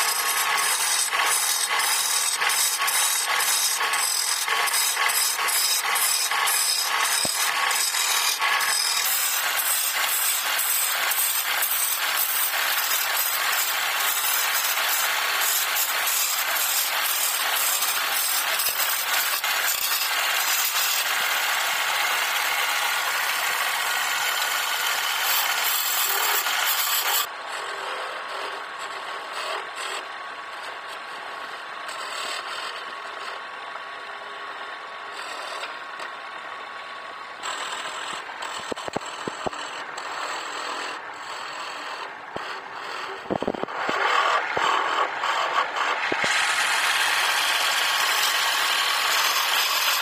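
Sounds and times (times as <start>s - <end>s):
wood lathe chisel scraping: 0.0s - 50.0s.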